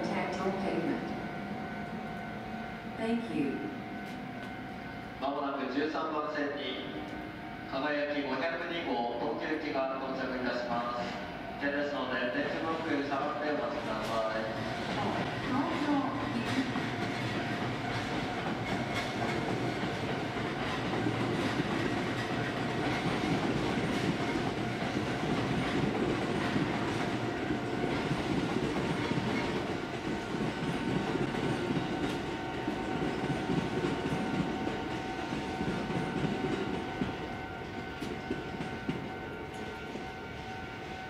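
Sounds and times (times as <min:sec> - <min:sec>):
two-tone train whine: 0:00.0 - 0:41.0
train wheels rumbling on rail: 0:07.8 - 0:41.0.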